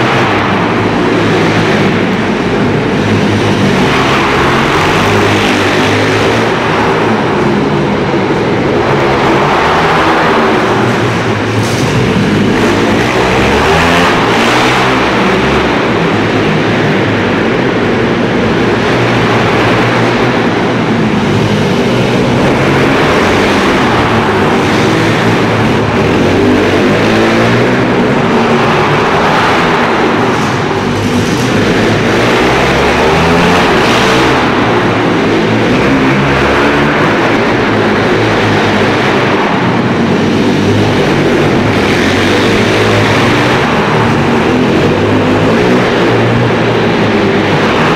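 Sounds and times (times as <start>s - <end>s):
pit bike engines revving: 0.0s - 47.9s.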